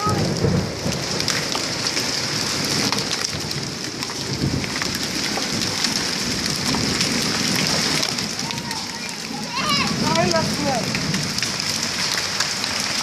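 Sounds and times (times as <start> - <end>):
hailstones clicking on hard surfaces: 0.0 - 13.0
heavy rain hissing: 0.0 - 13.0.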